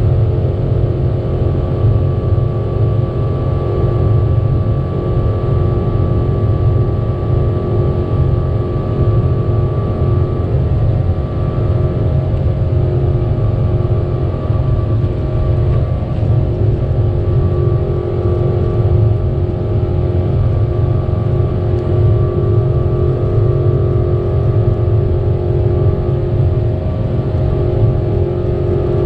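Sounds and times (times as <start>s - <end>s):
jet engines droning: 0.0s - 29.0s.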